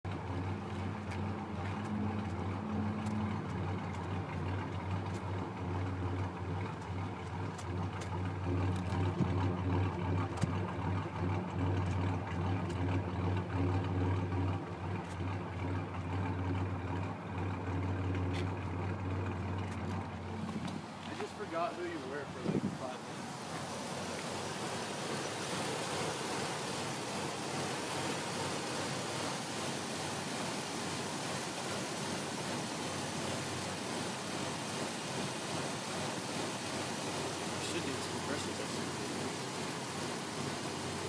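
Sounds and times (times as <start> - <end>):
engine idling roughly: 0.0 - 41.0.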